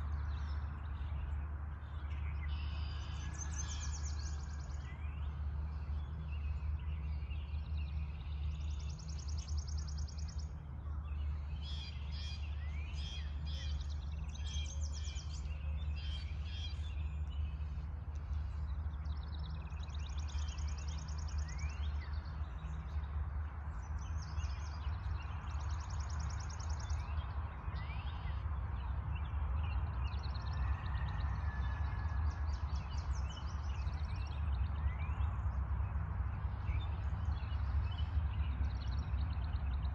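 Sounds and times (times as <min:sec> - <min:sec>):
songbirds singing: 0:00.0 - 0:39.9
steady low rumble: 0:00.0 - 0:39.9.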